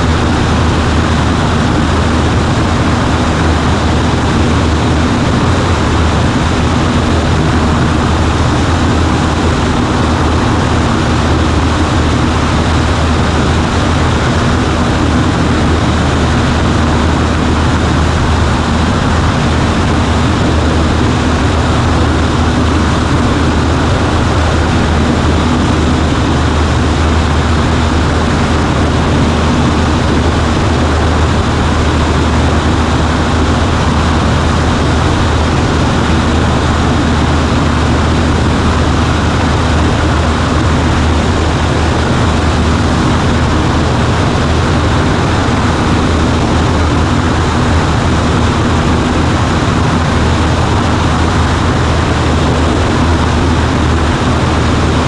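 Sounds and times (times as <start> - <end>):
small plane engine drone in cabin: 0.0 - 55.0.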